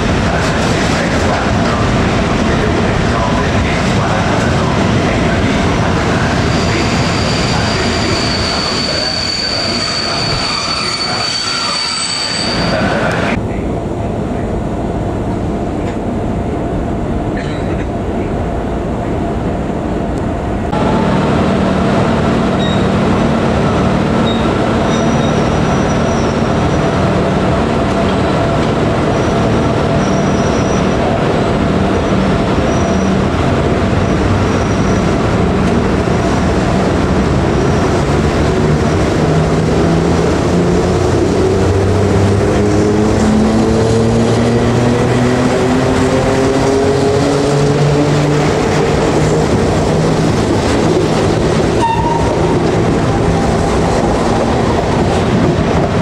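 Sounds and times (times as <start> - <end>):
electric locomotive whining: 0.0 - 13.6, 19.1 - 56.0.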